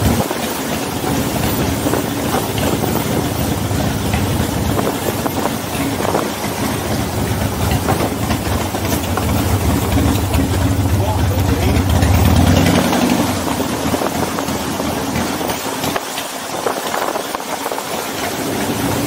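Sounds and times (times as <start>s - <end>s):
motorcycle engine running: 0.0s - 19.0s
tyres rolling over cobblestones: 0.0s - 19.0s.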